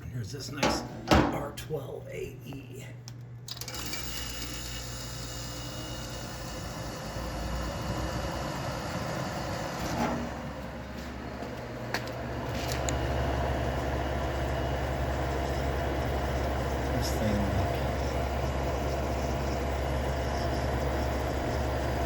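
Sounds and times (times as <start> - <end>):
low compressor hum: 0.0 - 3.9, 4.8 - 22.0.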